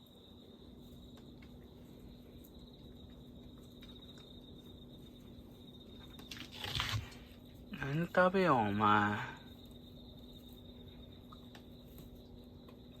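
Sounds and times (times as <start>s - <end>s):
crickets trilling: 0.0s - 13.0s
faint low hum: 0.0s - 13.0s.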